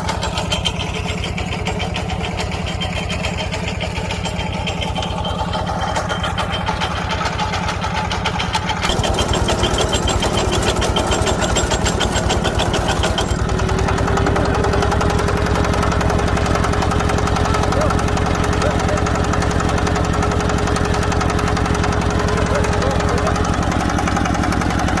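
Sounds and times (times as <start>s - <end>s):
digger engine running: 0.0s - 25.0s
machine rattle: 0.0s - 25.0s.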